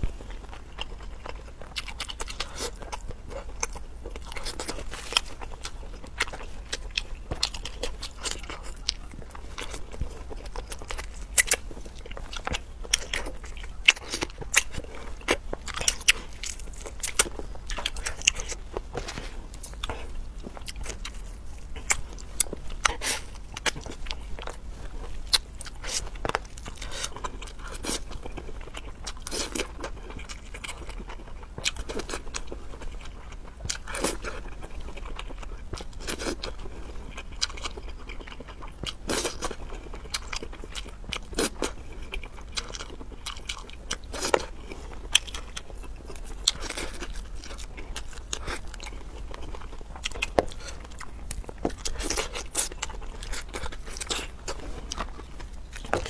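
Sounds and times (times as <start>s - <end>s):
food crunching: 0.0s - 56.0s
person chewing: 0.0s - 56.0s.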